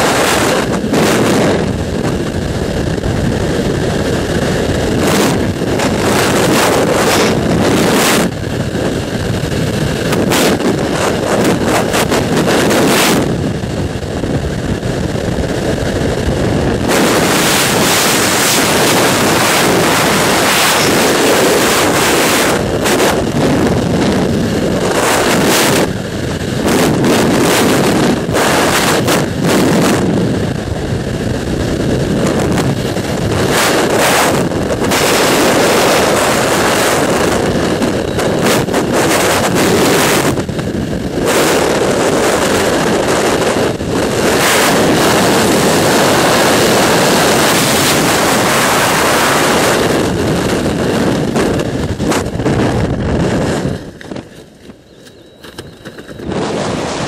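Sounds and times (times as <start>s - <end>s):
wind roaring over microphone: 0.0s - 57.0s.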